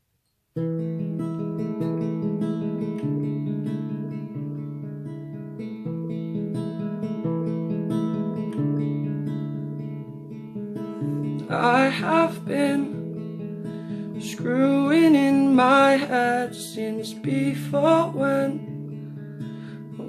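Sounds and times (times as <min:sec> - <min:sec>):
acoustic guitar strumming: 0:00.6 - 0:20.0.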